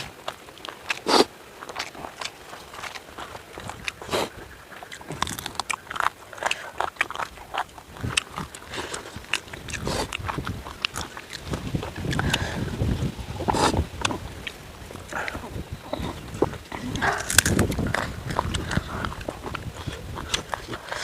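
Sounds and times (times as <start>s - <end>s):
person biting and chewing: 0.0s - 21.0s.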